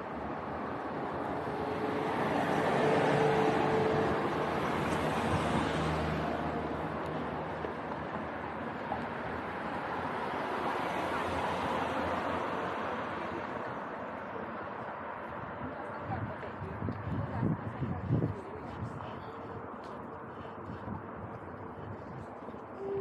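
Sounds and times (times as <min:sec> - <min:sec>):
cars passing on street: 0:00.0 - 0:23.0.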